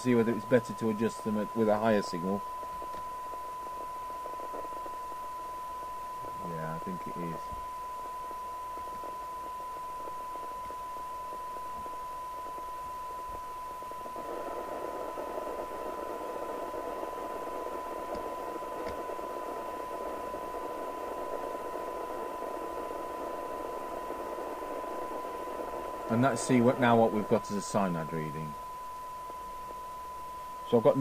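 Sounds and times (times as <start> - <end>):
radio hiss: 0.0 - 31.0
steady test tone: 0.0 - 31.0.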